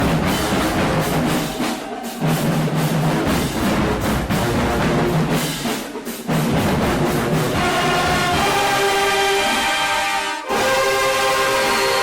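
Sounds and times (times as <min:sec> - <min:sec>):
loud music with drums and percussion: 0:00.0 - 0:12.0.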